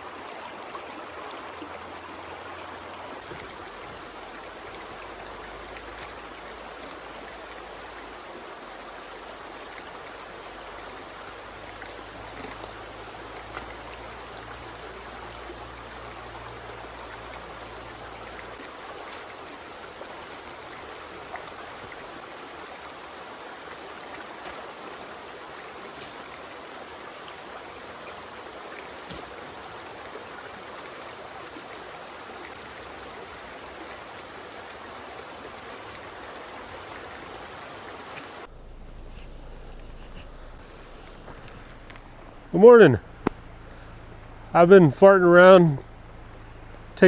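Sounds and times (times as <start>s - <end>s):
running water: 0.0s - 38.5s.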